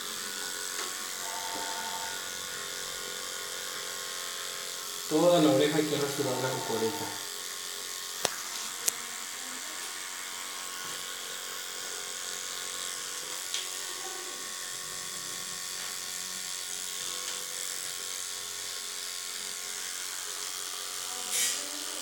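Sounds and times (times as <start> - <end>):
electric hair clipper running: 0.0 - 22.0.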